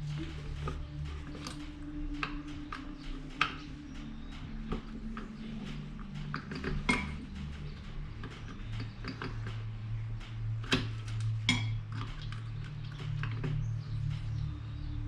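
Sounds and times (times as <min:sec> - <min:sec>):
metallic clicks of tools: 0:00.0 - 0:15.0
steady low hum: 0:00.0 - 0:15.0.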